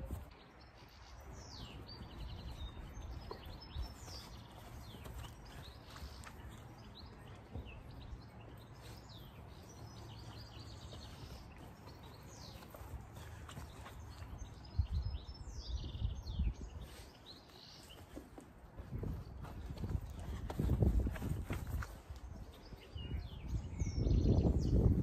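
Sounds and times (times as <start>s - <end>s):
soft thuds of feet on grass: 0.0s - 23.0s
small birds chirping and trilling: 0.0s - 25.0s.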